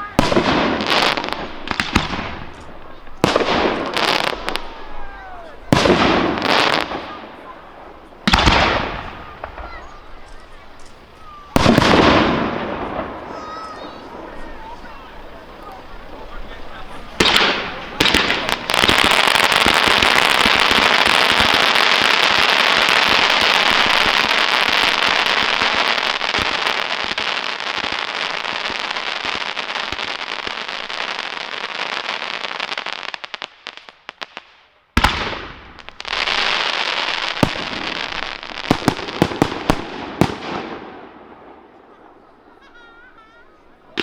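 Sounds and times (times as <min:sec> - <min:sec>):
fireworks bangs: 0:00.0 - 0:44.0
fireworks crackling: 0:00.0 - 0:44.0.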